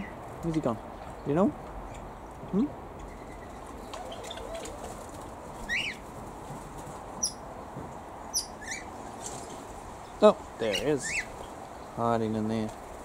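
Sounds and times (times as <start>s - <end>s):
birds chirping: 0.0s - 13.0s
faint steady rustle: 0.2s - 13.0s.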